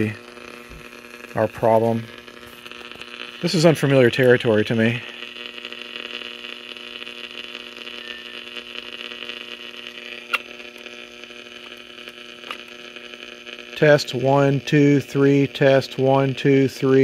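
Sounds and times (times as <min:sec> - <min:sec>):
radio loudspeaker hum and hiss: 0:00.0 - 0:17.0.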